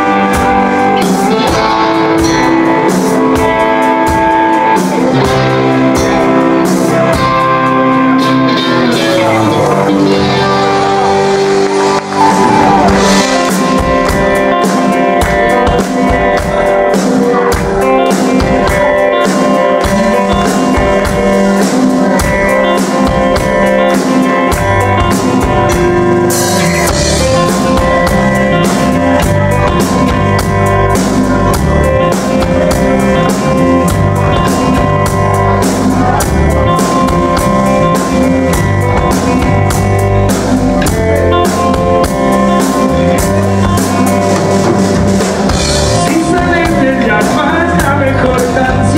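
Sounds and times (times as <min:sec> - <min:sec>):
bass guitar: 0:00.0 - 0:48.9
drum kit: 0:00.0 - 0:48.9
electric guitars: 0:00.0 - 0:48.9.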